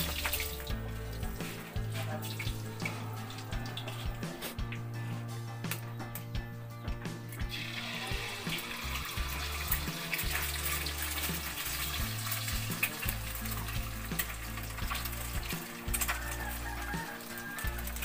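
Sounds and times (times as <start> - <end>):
egg sizzling in oil: 0.0 - 4.4, 7.4 - 18.0
background music with bass: 0.0 - 18.0.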